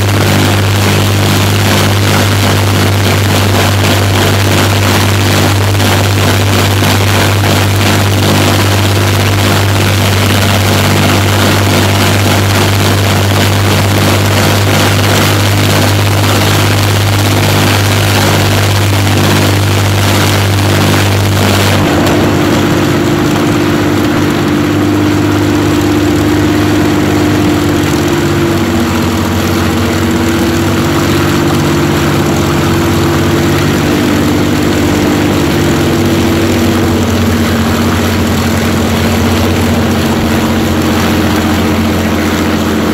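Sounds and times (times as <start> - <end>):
aero engines droning: 0.0 - 42.9.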